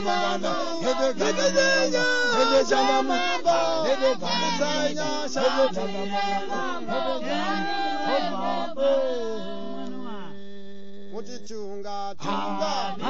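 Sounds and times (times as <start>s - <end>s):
voices singing together: 0.0s - 11.5s, 12.1s - 13.0s.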